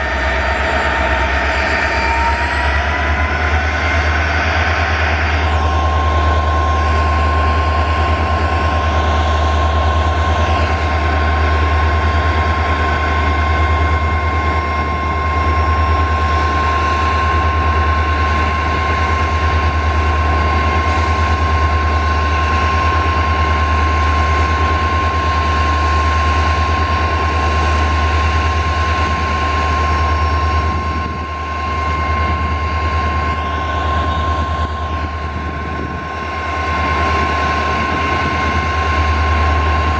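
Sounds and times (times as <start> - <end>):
diesel locomotive engines under load: 0.0 - 39.9
high turbo whine: 0.0 - 39.9.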